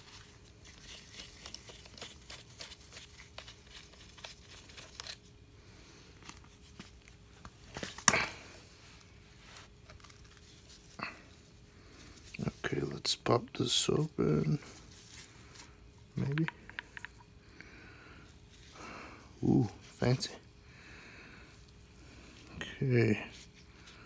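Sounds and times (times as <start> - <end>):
gloved hands rustling: 0.0 - 20.2.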